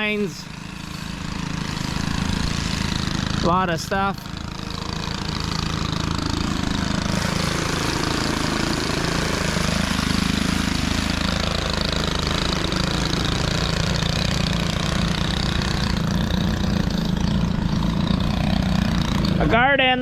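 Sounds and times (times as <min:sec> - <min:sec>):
hedge trimmer engine cutting: 0:00.0 - 0:20.0.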